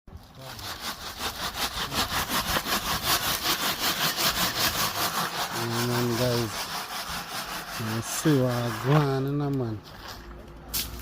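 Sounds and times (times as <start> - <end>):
hand saw cutting wood: 0.3 - 9.8.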